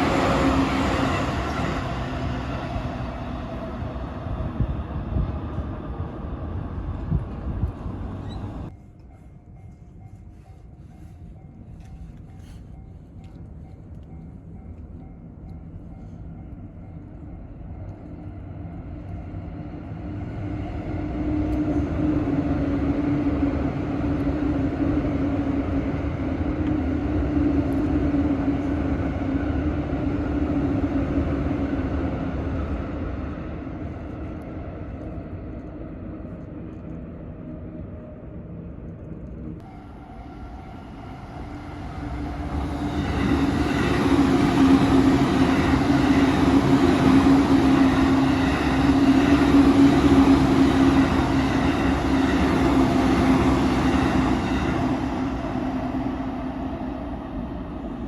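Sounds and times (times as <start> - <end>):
electric train passing: 0.0 - 58.0.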